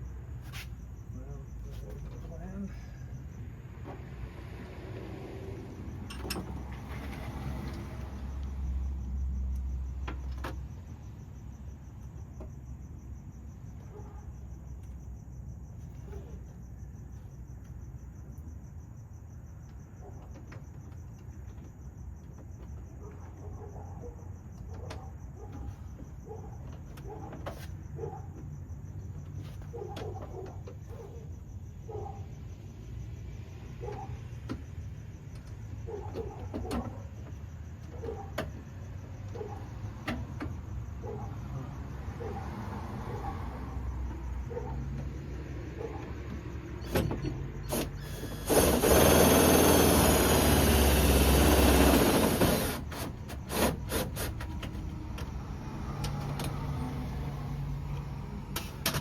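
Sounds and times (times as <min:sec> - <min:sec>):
cricket trill: 0:00.0 - 0:59.0.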